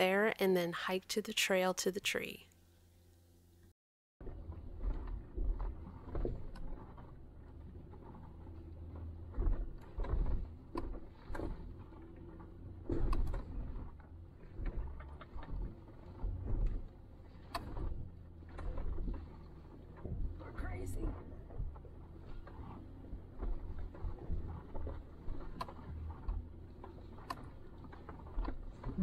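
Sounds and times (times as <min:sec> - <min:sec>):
engine rumble: 0:02.9 - 0:29.0
vehicle knocks and rattles: 0:04.2 - 0:29.0.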